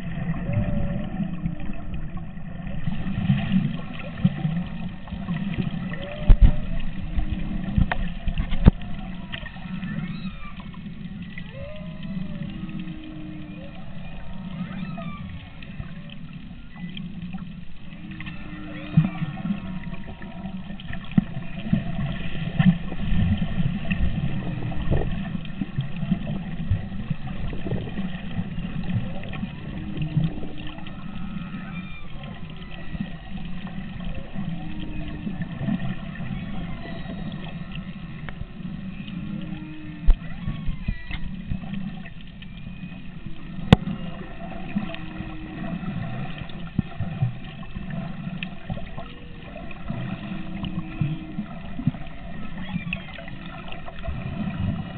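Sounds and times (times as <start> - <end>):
humpback whale song: 0.0 - 54.9
low rumble of water noise: 0.0 - 54.9.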